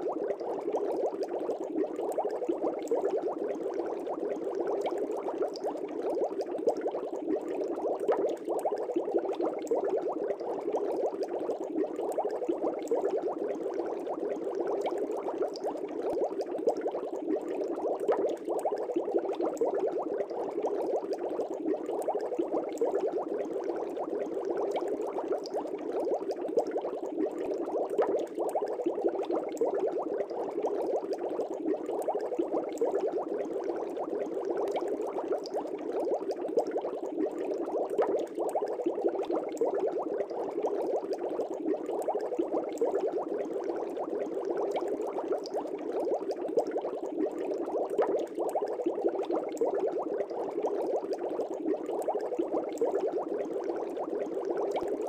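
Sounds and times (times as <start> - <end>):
fish tank bubbling: 0.0 - 55.0.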